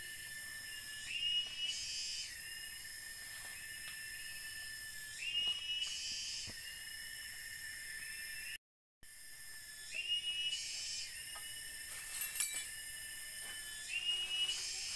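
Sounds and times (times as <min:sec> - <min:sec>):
cicadas droning: 0:00.0 - 0:14.9.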